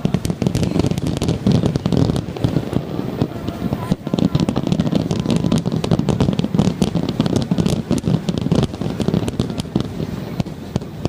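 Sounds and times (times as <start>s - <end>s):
fireworks crackling pops: 0.0s - 11.0s
low rumble of fireworks bursts: 0.0s - 11.0s.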